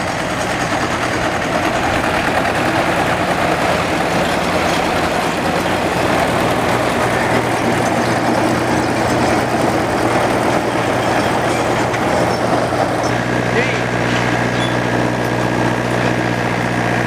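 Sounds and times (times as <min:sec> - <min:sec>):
baling machinery clatter: 0:00.0 - 0:17.0
engine running steadily: 0:00.0 - 0:17.0.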